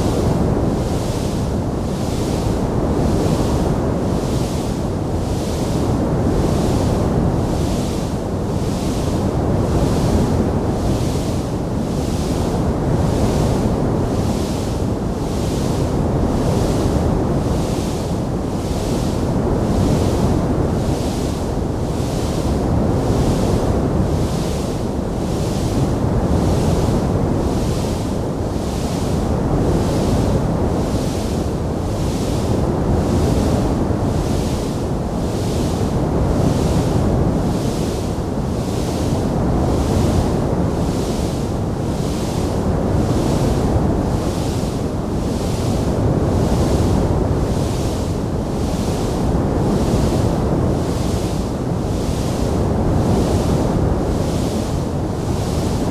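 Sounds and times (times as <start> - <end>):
steady rushing noise with hiss: 0.0 - 55.9.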